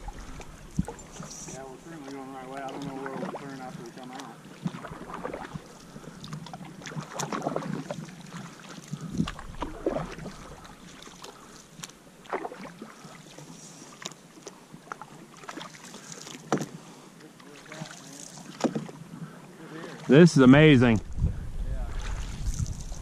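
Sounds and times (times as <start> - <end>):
paddles splashing in water: 0.0 - 20.8, 21.8 - 23.0.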